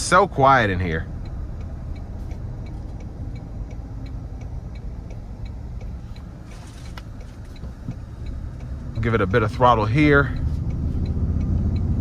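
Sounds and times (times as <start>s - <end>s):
light regular ticking: 0.0s - 12.0s
road and cabin hum: 0.0s - 12.0s.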